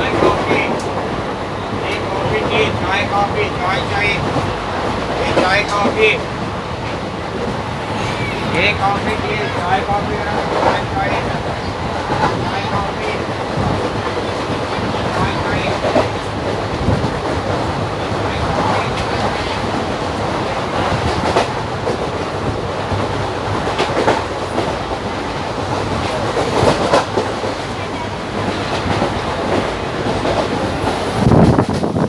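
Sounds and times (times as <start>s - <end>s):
train coach rumble and rattle: 0.0s - 32.0s.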